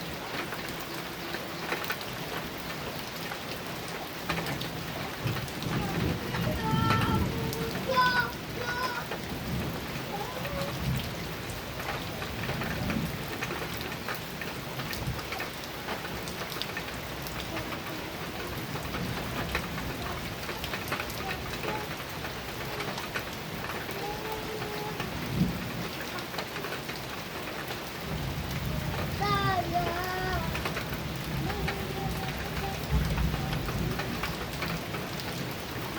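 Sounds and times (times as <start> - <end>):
heavy rain on a metal roof: 0.0 - 35.9
low thunder rumbling: 4.2 - 27.0, 27.9 - 35.9.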